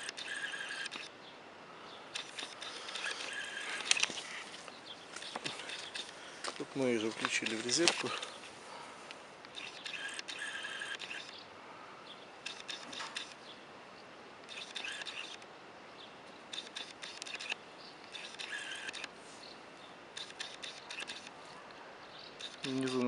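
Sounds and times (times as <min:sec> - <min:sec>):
bird chirping: 0:00.0 - 0:08.8, 0:09.5 - 0:23.0.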